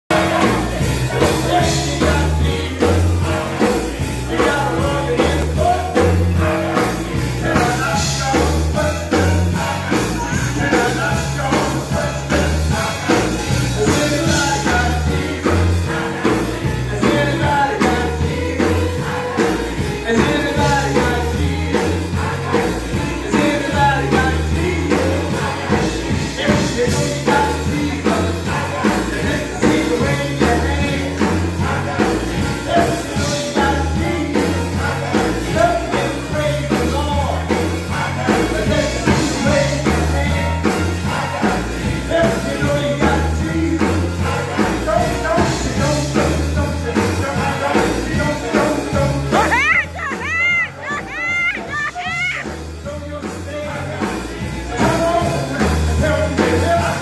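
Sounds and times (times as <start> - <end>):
gospel singing with band: 0.1 - 57.0
prominent bass line: 0.1 - 57.0.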